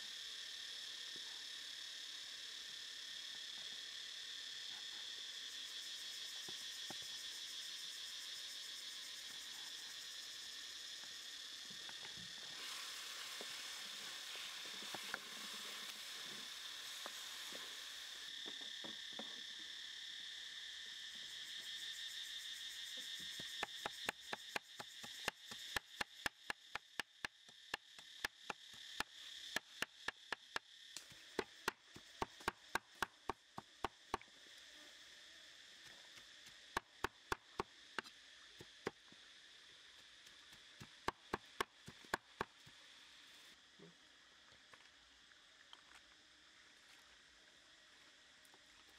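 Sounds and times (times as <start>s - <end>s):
high-pitched insect buzz: 0.0s - 45.5s.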